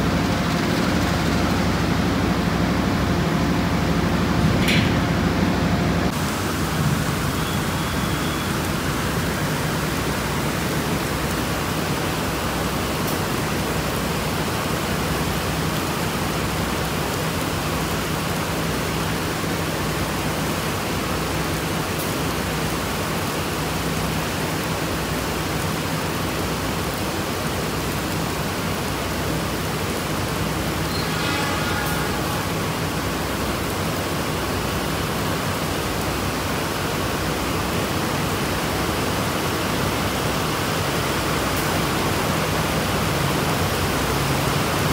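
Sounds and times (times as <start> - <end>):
rain hiss: 0.0 - 44.9.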